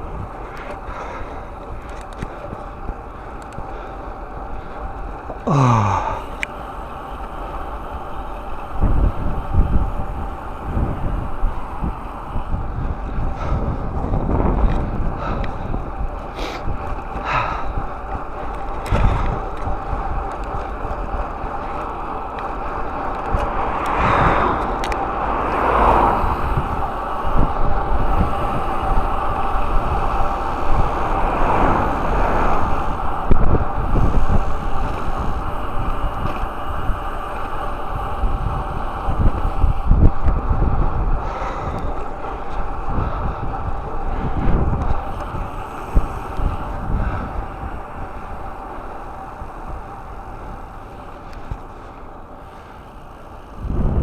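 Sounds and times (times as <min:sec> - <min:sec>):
bicycle riding noise: 0:00.0 - 0:54.0
wind buffeting microphone: 0:00.0 - 0:54.0.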